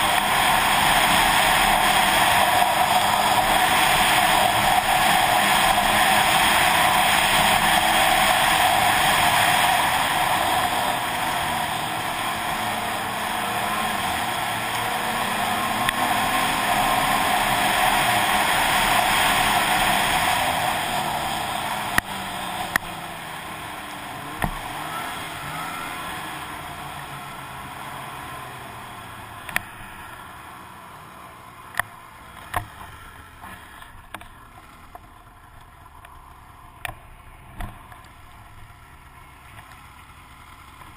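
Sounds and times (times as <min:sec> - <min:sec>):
snowmobile running: 0:00.0 - 0:40.9.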